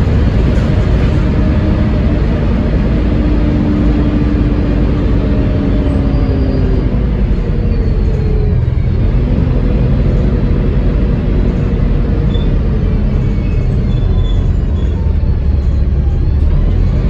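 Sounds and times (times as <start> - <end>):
bus diesel engine rumble: 0.0 - 17.0
gearbox whine: 0.0 - 17.0.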